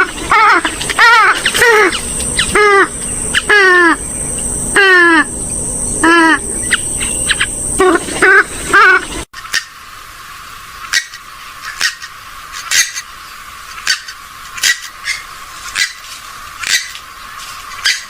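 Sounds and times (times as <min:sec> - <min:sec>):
waterbird nasal calls: 0:00.0 - 0:05.3, 0:06.0 - 0:09.8, 0:10.7 - 0:16.0
high insect-like buzz: 0:00.0 - 0:18.0.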